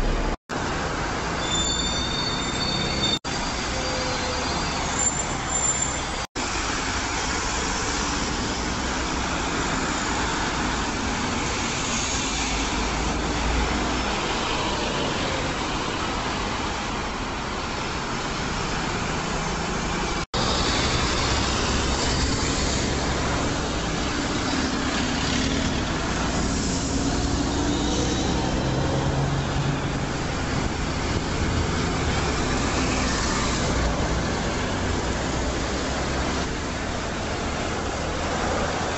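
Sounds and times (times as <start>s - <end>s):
buses and cars passing: 0.0s - 38.9s.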